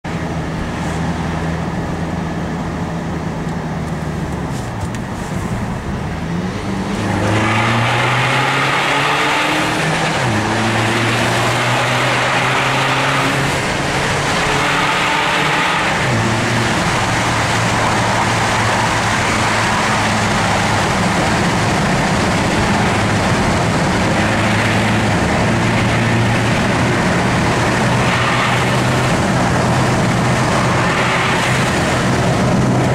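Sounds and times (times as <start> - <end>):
car engine accelerating: 0.1 - 32.9
road noise inside car: 0.1 - 32.9.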